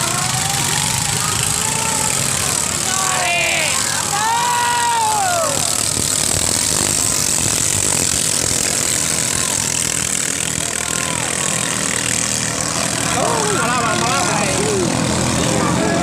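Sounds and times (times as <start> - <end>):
boat engines running: 0.0 - 16.0.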